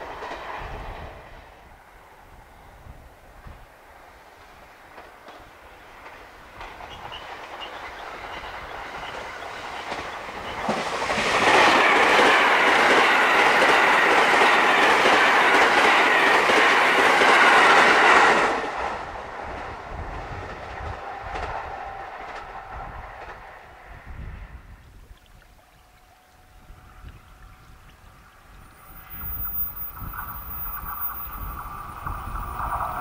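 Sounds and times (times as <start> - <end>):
train passing at speed: 0.0 - 24.8, 26.1 - 33.0.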